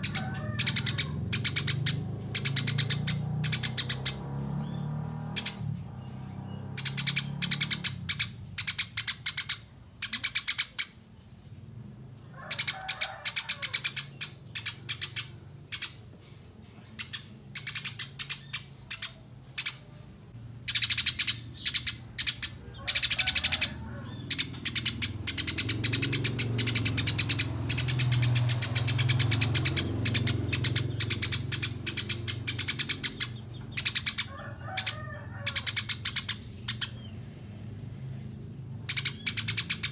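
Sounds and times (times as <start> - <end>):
sparrows chirping shrilly: 0.0 - 39.9.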